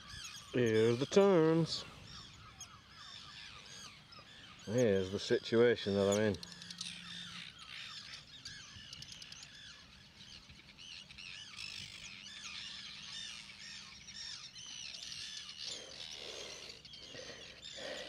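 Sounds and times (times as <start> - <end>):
terns calling harshly: 0.0 - 10.0, 11.2 - 18.0.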